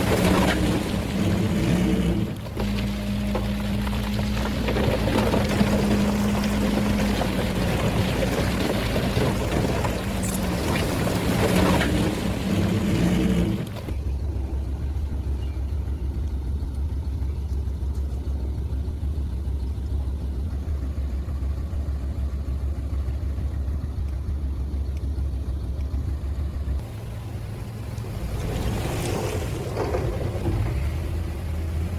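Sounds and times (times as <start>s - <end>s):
heavy machinery diesel engine: 0.0s - 31.9s.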